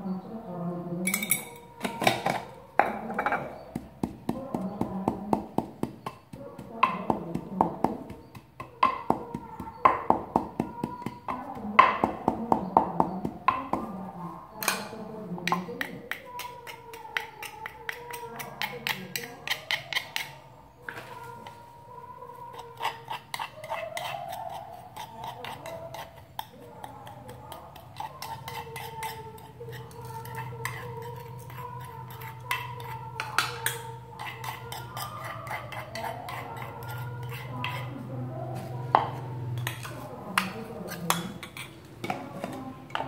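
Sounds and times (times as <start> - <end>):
metal spoon scraping a mortar: 1.0 - 20.5, 22.3 - 43.0.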